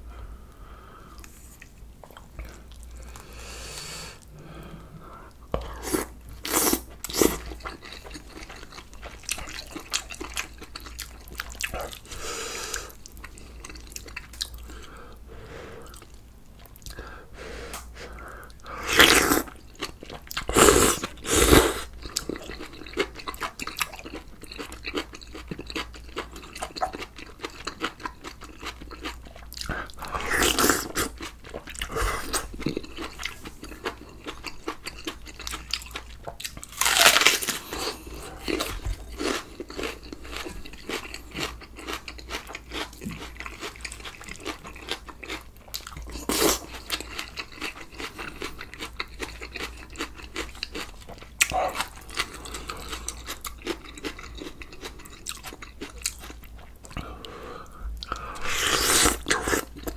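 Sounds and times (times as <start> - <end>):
man chewing: 1.1 - 59.9.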